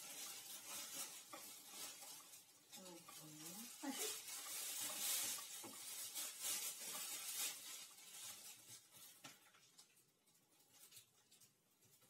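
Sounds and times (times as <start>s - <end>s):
spoon stirring crunchy snacks: 0.0s - 12.0s.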